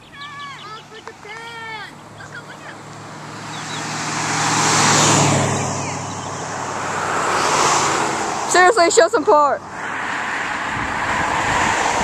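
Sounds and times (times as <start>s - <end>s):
vehicle approaching: 0.0s - 12.0s
car passing by: 0.6s - 12.0s.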